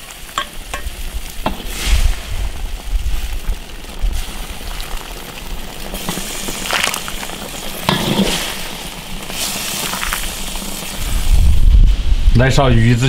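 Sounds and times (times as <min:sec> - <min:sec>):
soup boiling in metal pot: 0:00.0 - 0:12.3.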